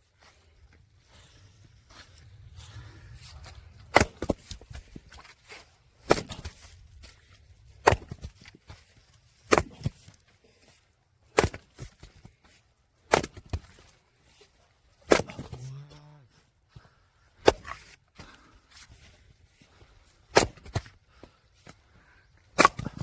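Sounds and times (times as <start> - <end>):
firewood splitting blows: 2.2 - 15.7, 16.7 - 23.0.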